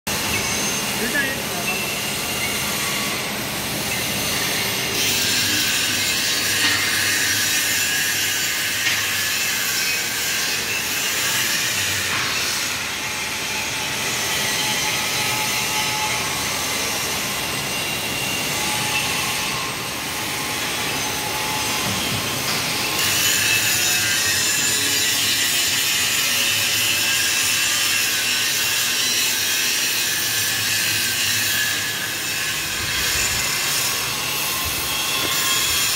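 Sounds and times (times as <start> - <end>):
screw conveyor running: 0.1 - 35.9.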